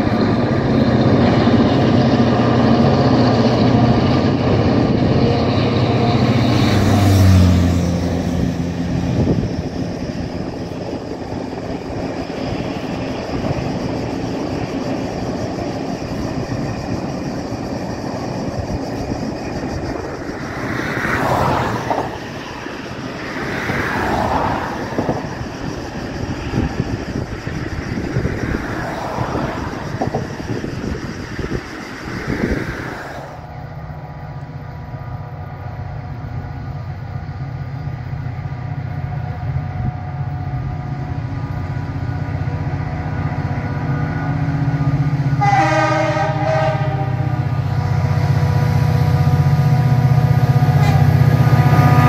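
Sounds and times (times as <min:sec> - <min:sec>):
train engine drone: 0:00.0 - 0:52.0
train rumbling past: 0:00.0 - 0:52.0.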